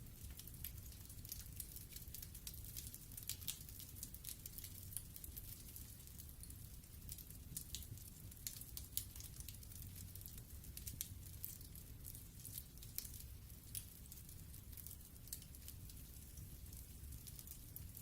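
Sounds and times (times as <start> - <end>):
low rumble of flames: 0.0 - 18.0.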